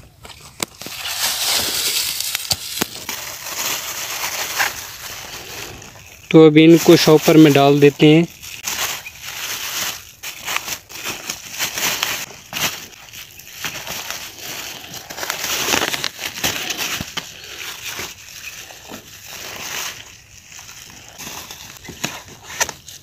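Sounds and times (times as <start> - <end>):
plastic bag crinkling: 0.2 - 23.0.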